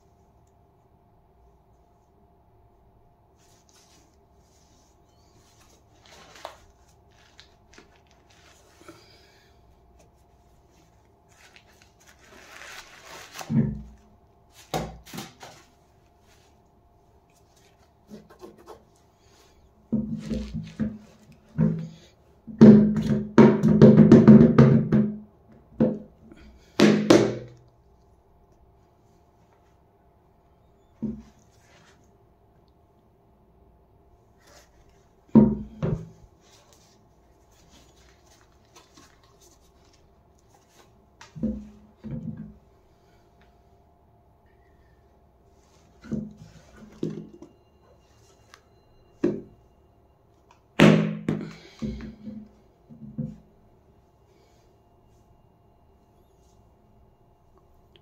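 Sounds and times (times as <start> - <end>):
soft rubbing and handling noise: 0.0 - 22.4, 27.8 - 32.8, 34.1 - 50.6, 51.6 - 58.0.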